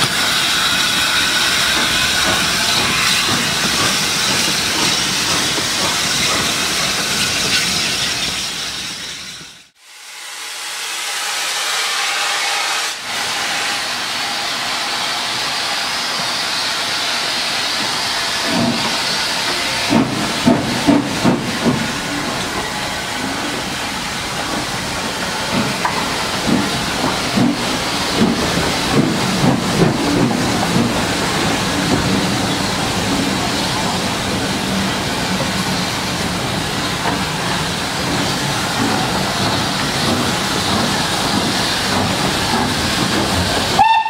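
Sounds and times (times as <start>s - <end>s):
steam hissing: 0.0s - 9.7s, 11.4s - 44.0s.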